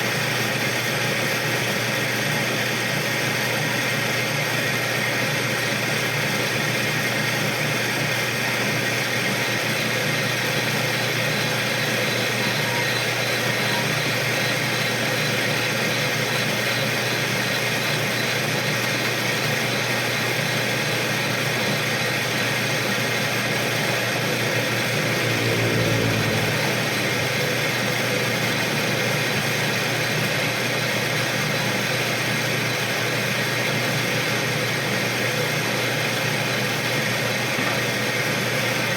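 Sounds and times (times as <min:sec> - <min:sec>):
metal lathe running: 0:00.0 - 0:38.9.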